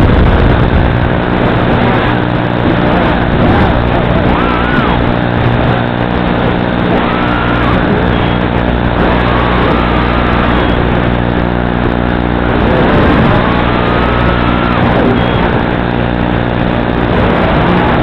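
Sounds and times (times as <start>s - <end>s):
steady buzzing hum: 0.0s - 18.0s
quadcopter motors whining: 1.4s - 18.0s.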